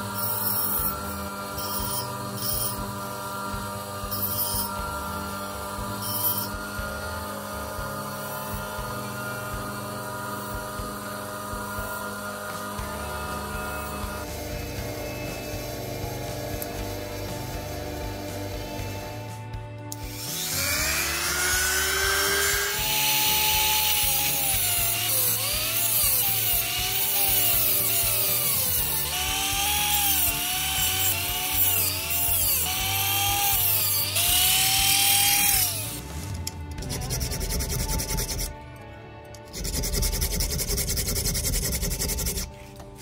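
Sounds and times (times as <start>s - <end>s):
hand file scraping steel: 0.0s - 15.3s, 19.9s - 38.6s, 39.4s - 43.0s
rotary tool cutting steel: 0.0s - 38.6s, 39.3s - 43.0s.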